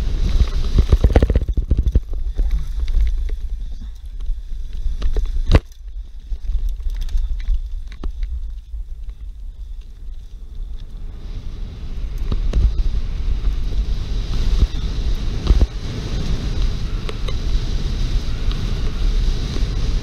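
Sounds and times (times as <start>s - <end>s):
bike rolling on dirt trail: 0.0s - 20.0s
wind buffeting microphone: 0.0s - 20.0s.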